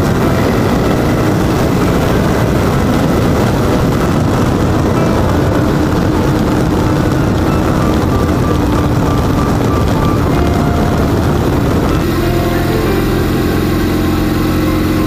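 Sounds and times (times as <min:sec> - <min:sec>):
faint music: 0:00.0 - 0:15.0
motorcycle engine running: 0:00.0 - 0:15.0
wind buffeting microphone: 0:00.0 - 0:15.0.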